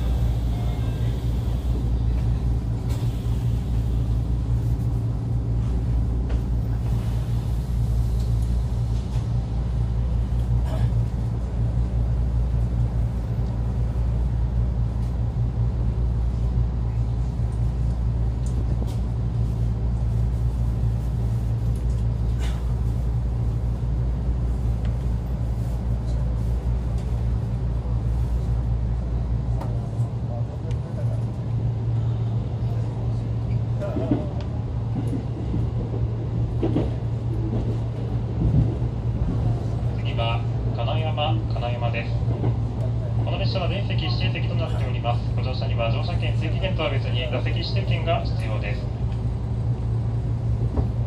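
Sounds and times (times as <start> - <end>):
train motors and wheels rumbling: 0.0 - 51.0.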